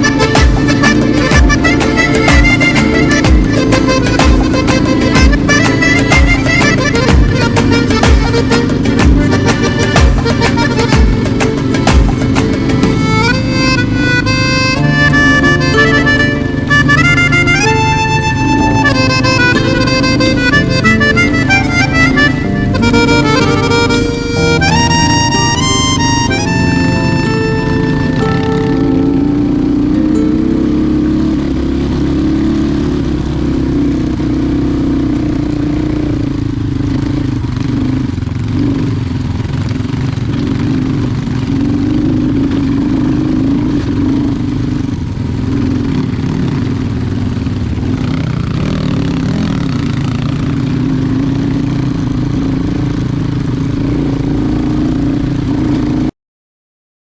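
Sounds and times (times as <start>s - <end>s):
motorcycle engine cruising: 0.0s - 56.1s.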